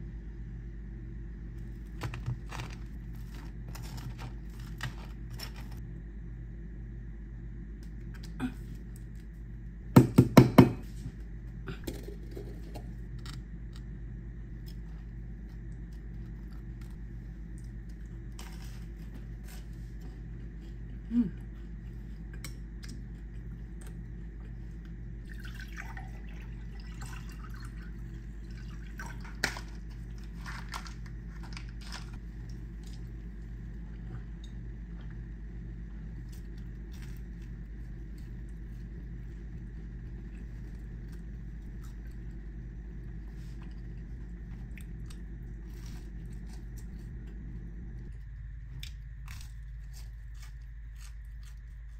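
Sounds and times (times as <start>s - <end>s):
low hum: 0.0s - 51.9s.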